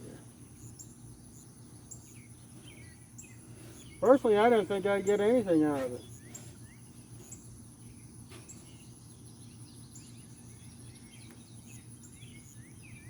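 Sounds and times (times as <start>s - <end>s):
birds chirping: 0.0s - 13.0s
insects droning: 0.0s - 13.0s
low steady hum: 0.0s - 13.0s.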